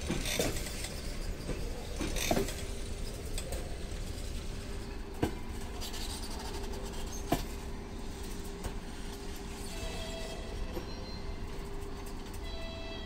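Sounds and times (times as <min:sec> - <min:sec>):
train rolling slowly: 0:00.0 - 0:13.0.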